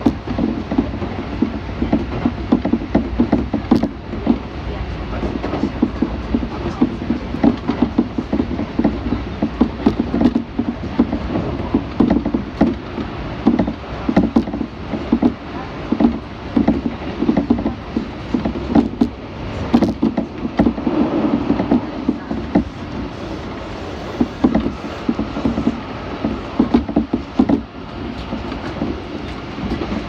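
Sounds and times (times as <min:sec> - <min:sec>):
clicks and rattles of train body: 0:00.0 - 0:30.0
train rumble inside carriage: 0:00.0 - 0:30.0.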